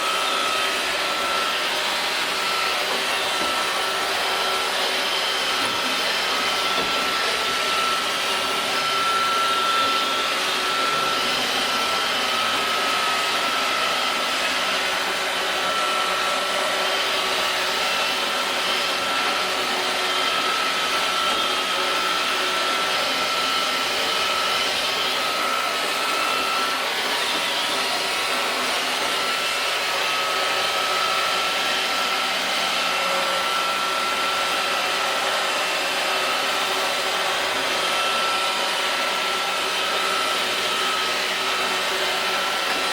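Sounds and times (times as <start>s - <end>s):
robot vacuum whirring: 0.0s - 42.9s.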